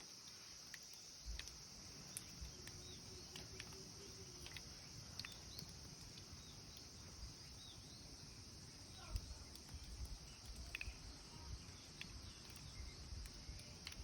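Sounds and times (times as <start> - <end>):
cicadas droning: 0.0 - 14.0
rain dripping: 0.0 - 14.0.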